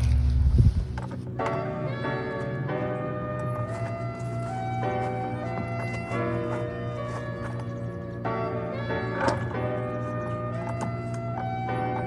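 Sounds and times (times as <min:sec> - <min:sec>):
background music held notes: 0:00.0 - 0:12.0.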